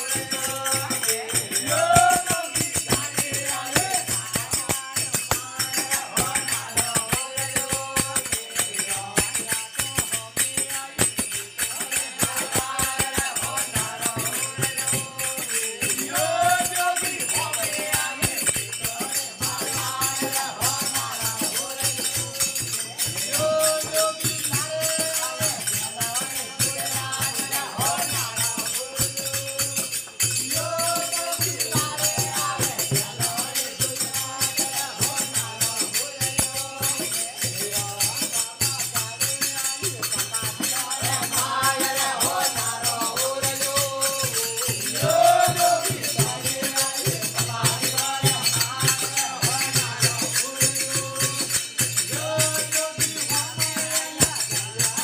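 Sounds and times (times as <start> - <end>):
devotional song sung: 0.0 - 55.0
jingling rattling percussion: 0.0 - 55.0.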